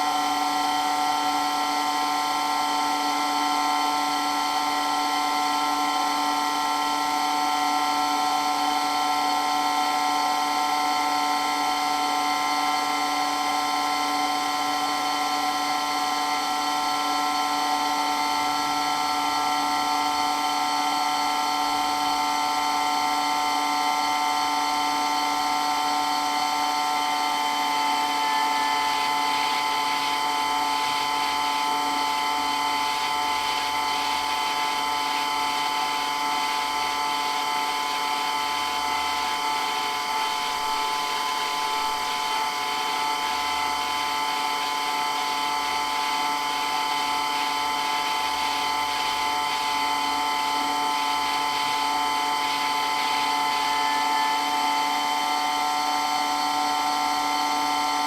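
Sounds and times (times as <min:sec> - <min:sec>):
electric water pump whining: 0:00.0 - 0:58.0.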